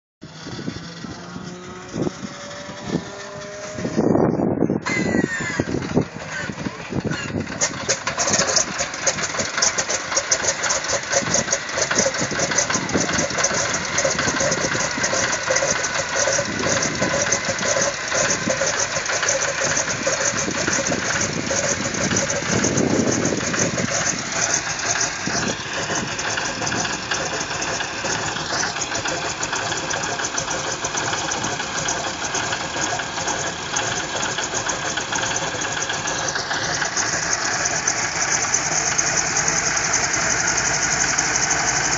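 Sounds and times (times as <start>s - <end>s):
plane piston engine idling: 0.2s - 41.9s.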